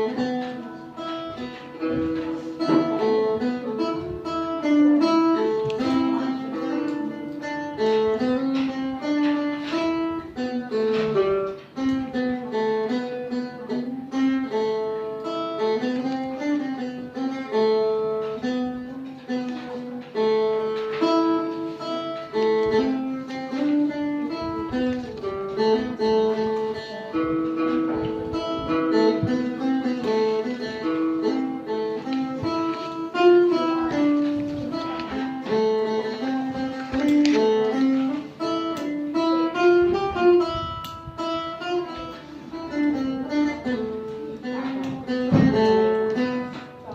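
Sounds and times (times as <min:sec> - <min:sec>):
plucked lute melody: 0:00.0 - 0:46.9.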